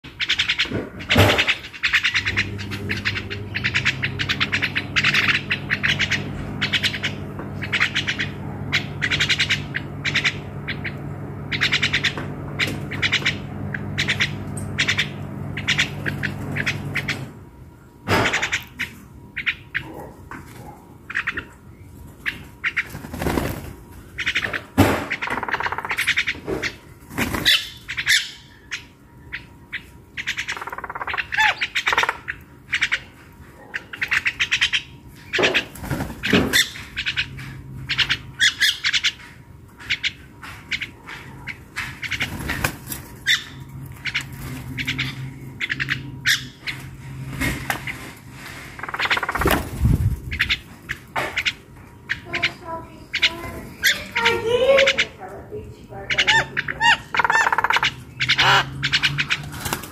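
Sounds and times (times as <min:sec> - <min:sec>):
birds chirping and rasping: 0:00.0 - 0:59.9.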